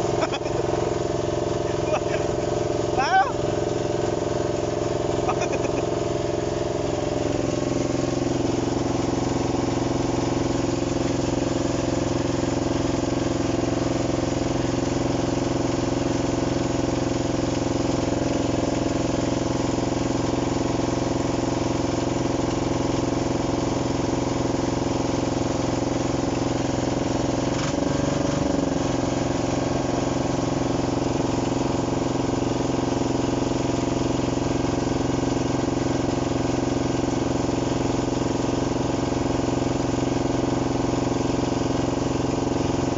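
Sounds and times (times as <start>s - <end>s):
excavator diesel engine running: 0.0s - 34.4s.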